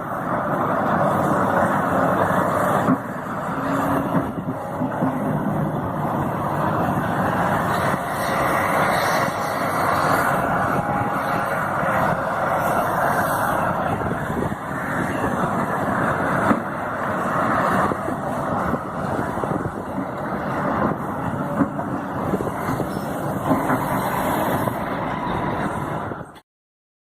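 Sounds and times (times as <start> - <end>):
excavator diesel engine and hydraulics: 0.0 - 26.4.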